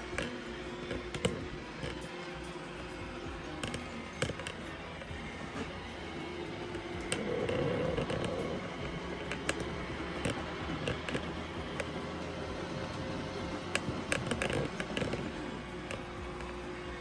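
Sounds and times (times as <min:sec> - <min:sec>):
robot vacuum motor hum: 0:00.0 - 0:17.0.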